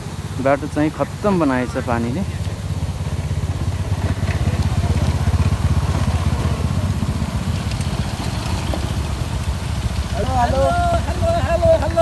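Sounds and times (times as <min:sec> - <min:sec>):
motor scooters riding past: 0:00.0 - 0:12.0.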